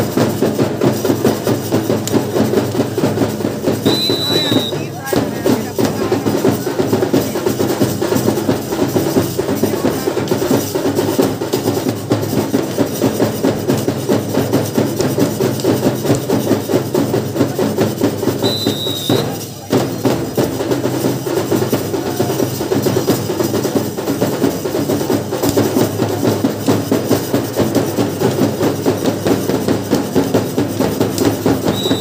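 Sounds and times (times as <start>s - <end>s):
drums playing a fast rhythm: 0.0s - 32.0s.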